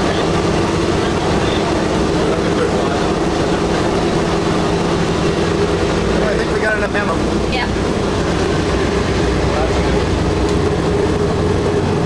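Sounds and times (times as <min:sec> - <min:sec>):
radial engines droning: 0:00.0 - 0:12.0.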